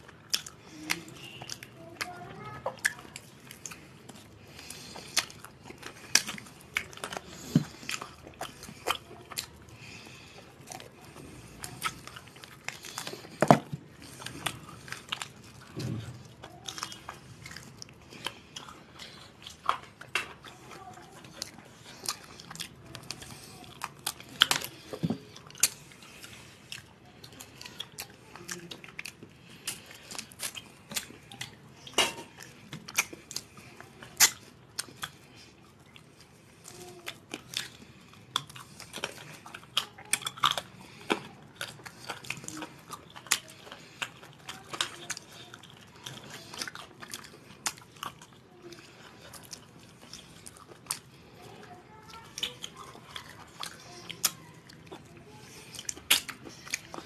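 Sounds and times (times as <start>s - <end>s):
close chewing and biting: 0.0s - 57.0s.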